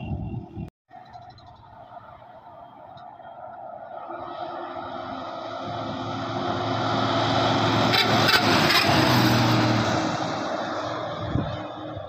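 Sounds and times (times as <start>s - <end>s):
bus driving past: 0.9s - 12.0s.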